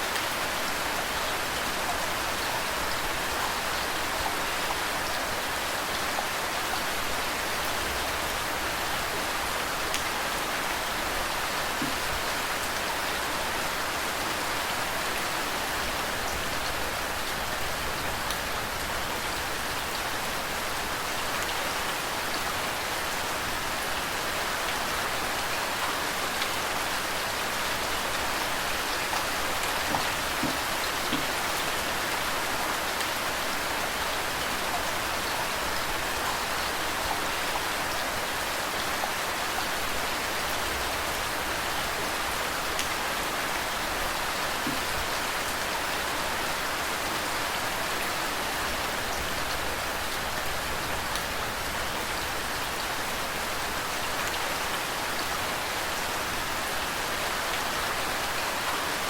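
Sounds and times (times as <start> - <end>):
flowing water: 0.0 - 59.0
steady rain falling: 0.0 - 59.0.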